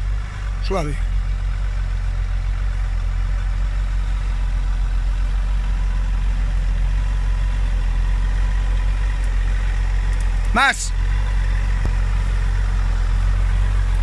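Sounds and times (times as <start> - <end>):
vehicle engine running at low revs: 0.0 - 14.0.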